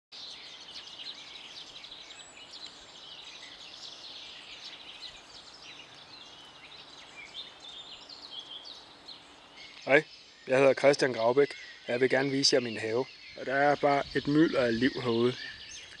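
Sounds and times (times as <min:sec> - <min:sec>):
songbirds singing and calling: 0:00.1 - 0:16.0.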